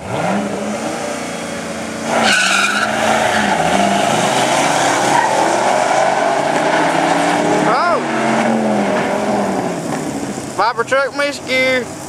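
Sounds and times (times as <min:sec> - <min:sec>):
tire screech burst: 0:00.0 - 0:10.3
engines revving and accelerating: 0:00.0 - 0:10.7.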